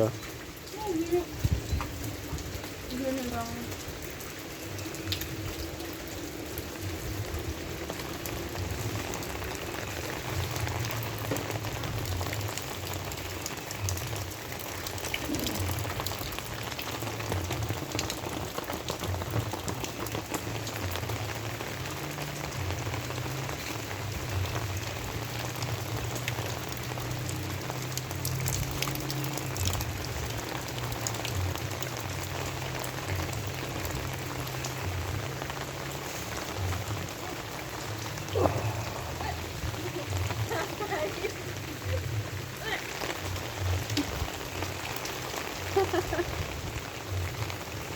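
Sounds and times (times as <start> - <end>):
rain hissing: 0.0 - 47.9
sharp rain drop ticks: 0.1 - 47.9.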